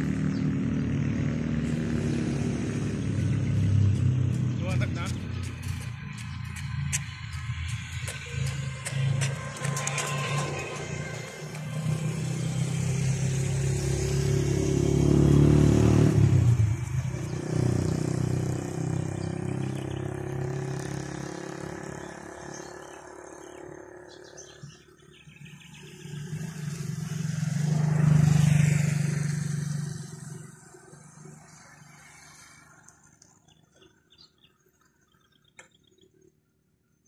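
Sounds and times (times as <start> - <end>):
motor vehicles passing: 0.0 - 37.0.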